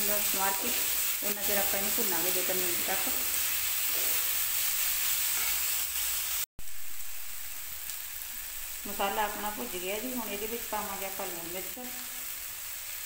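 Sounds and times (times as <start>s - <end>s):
vegetables sizzling in pan: 0.0s - 13.0s.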